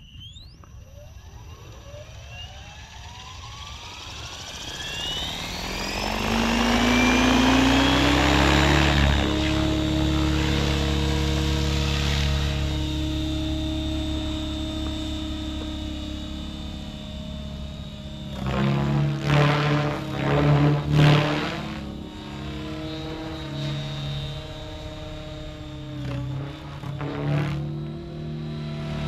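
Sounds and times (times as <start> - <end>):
helicopter rotor drone: 0.0 - 29.0
high motor whine: 0.0 - 29.0
rotor whooshes: 4.0 - 29.0.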